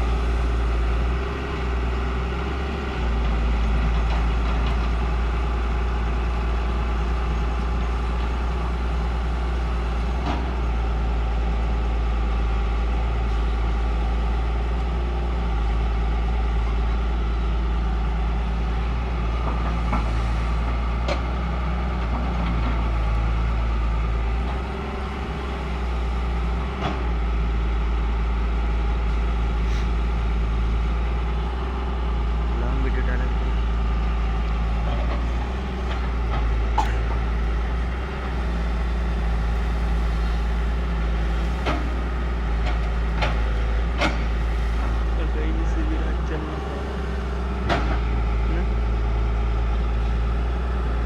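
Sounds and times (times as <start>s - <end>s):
heavy diesel machinery rumble: 0.0s - 51.0s.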